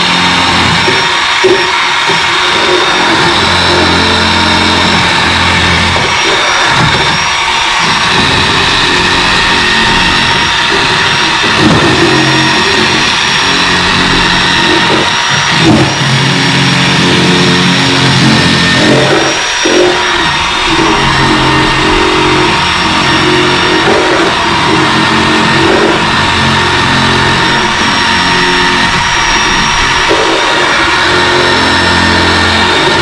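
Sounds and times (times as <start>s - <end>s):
power tool cutting: 0.0s - 33.0s.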